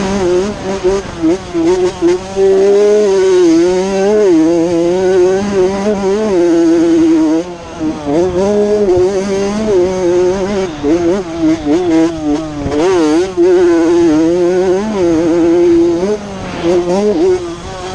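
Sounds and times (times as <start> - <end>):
motocross bike engine revving: 0.0 - 17.9.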